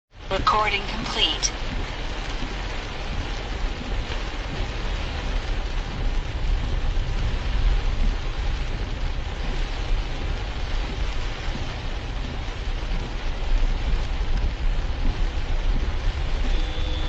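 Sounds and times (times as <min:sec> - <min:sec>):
rain: 0:00.1 - 0:17.0
low rumble: 0:00.2 - 0:17.0
tyres on wet road: 0:00.2 - 0:17.0.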